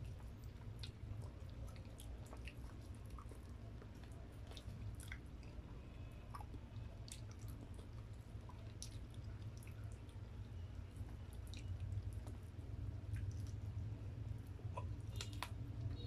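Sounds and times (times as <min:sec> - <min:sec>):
person chewing: 0:00.0 - 0:16.0
steady low hum: 0:00.0 - 0:16.0.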